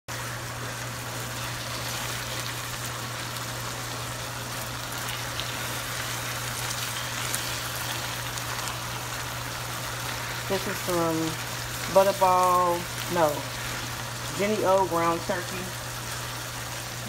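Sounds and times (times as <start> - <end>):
meat sizzling in a frying pan: 0.1 - 17.0.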